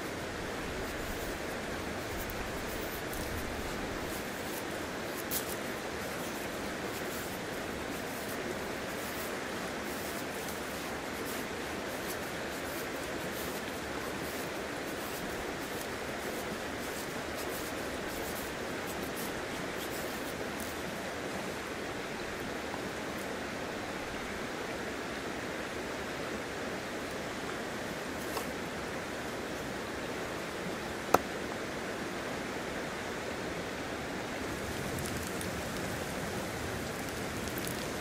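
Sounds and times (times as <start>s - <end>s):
river rushing: 0.0s - 38.0s.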